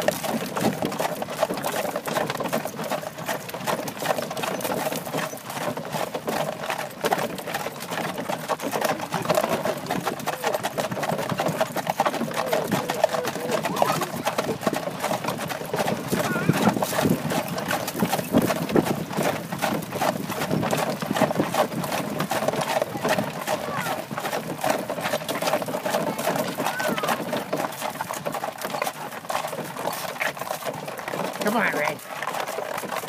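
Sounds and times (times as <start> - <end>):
buggy wheels rattling: 0.0 - 33.0
horse hooves clip-clopping: 0.0 - 33.0.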